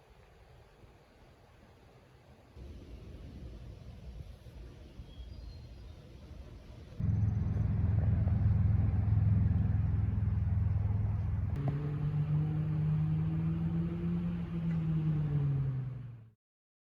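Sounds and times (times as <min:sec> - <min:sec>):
vehicle engine rumble: 0:02.6 - 0:16.4.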